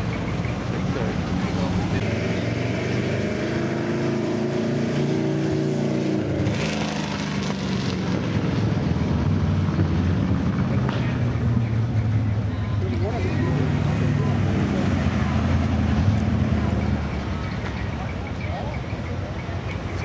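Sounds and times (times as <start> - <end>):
car engines cruising: 0.0 - 20.0.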